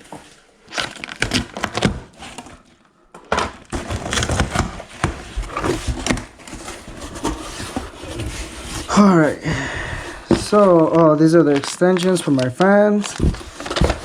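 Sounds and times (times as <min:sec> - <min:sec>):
cardboard rustling and scraping: 0:00.0 - 0:14.0.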